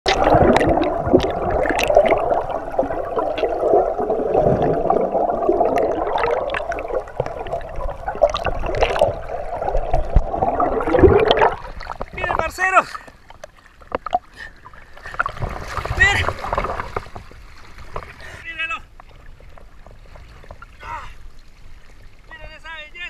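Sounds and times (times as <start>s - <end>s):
churning underwater river noise: 0.0s - 23.0s.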